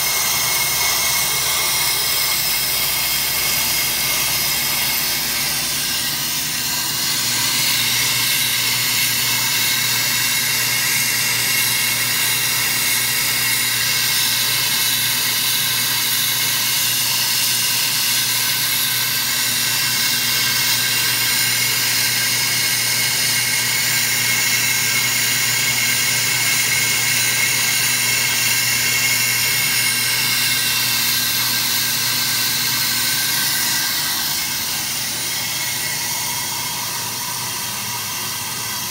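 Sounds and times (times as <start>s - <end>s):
lathe motor humming: 0.0s - 38.9s
metallic cutting whine: 0.0s - 38.9s.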